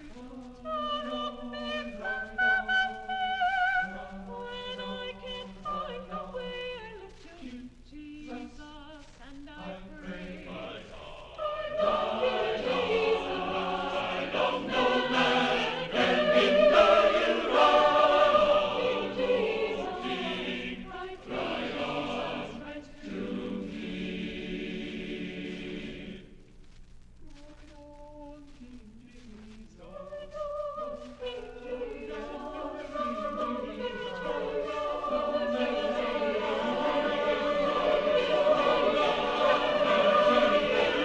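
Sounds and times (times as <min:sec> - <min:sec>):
choir singing: 0:00.0 - 0:08.8, 0:09.4 - 0:26.4, 0:29.7 - 0:41.0.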